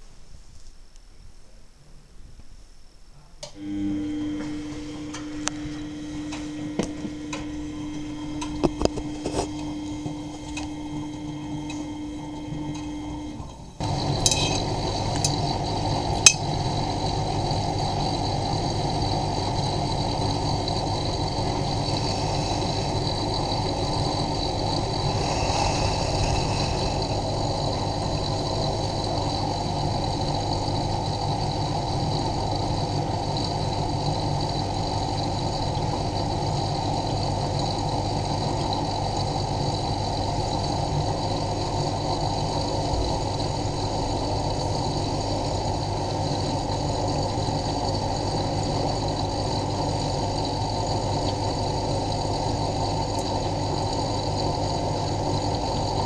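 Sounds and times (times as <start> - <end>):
water hissing into washing machine: 9.1 - 56.0.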